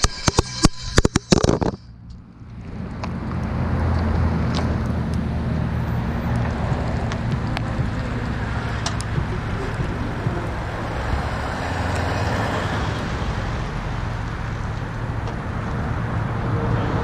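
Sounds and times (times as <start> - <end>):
road noise: 0.0 - 17.0
vehicle engine humming: 0.0 - 17.0.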